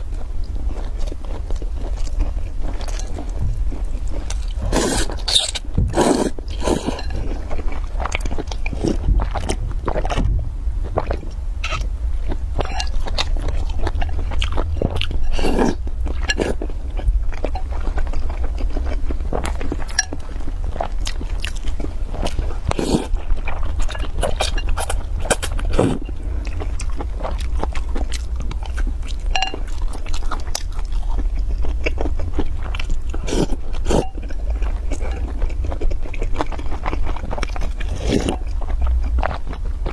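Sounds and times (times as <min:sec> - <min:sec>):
low steady hum: 0:00.0 - 0:39.9
noodles slurped and chewed: 0:00.6 - 0:10.2, 0:10.8 - 0:39.9.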